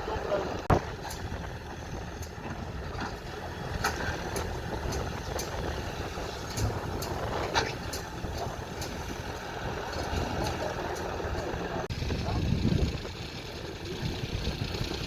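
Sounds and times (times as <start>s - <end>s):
excavator engine rumbling: 0.0s - 15.0s.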